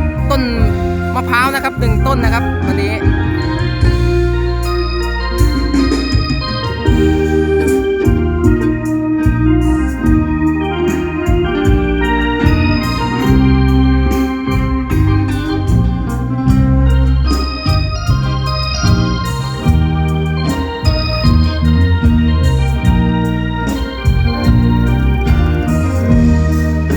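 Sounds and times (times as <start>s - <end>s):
electronic keyboard playing chords: 0.0s - 26.9s.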